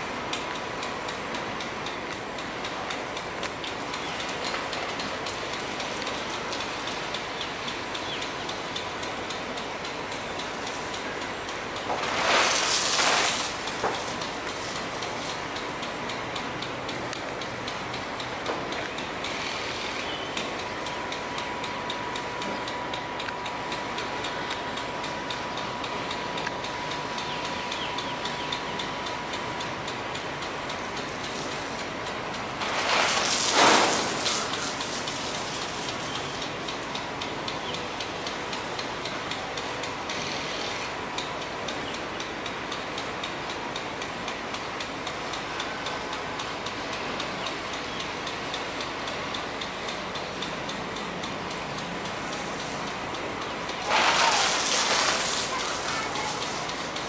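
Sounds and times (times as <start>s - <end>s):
sprinkler ticking: 0.0s - 57.0s
sprinkler water spray hissing: 0.0s - 57.0s.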